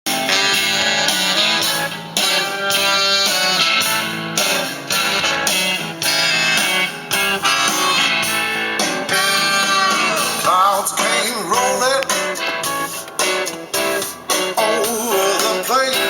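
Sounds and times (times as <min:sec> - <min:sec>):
guitar-led song on car speakers: 0:00.0 - 0:16.0.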